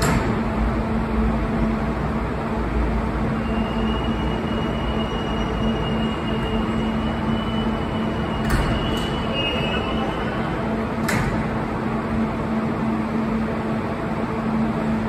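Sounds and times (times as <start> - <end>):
train equipment hum and rumble: 0.0 - 15.0.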